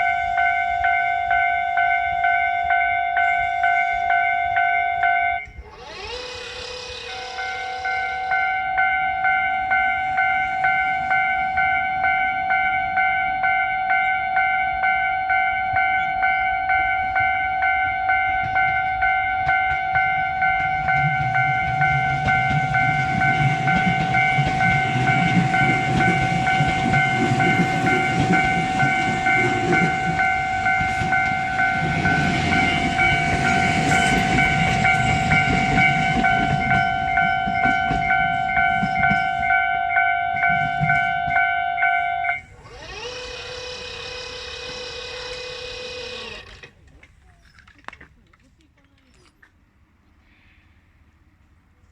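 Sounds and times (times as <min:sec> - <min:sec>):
crossing warning bell ringing: 0:00.0 - 0:46.8
rising whine: 0:00.0 - 0:46.8
trains rumbling and clattering: 0:00.0 - 0:51.9.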